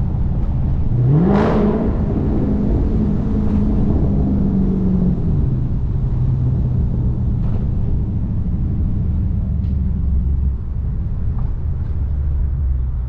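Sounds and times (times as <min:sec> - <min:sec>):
car exhaust rumble: 0:00.0 - 0:13.0.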